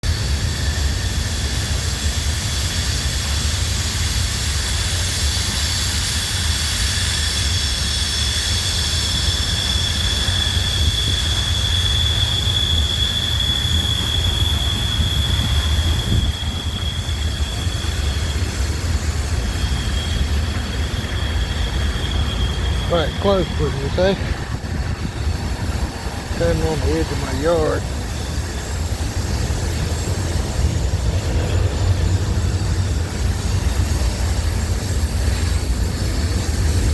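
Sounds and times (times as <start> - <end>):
freight train rumbling on rails: 0.0 - 36.9
high-pitched wheel squeal: 4.6 - 36.9.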